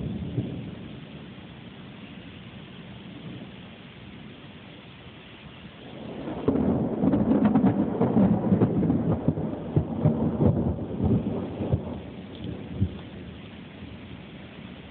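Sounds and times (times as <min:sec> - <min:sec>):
thunder rumbling: 0:00.0 - 0:14.9.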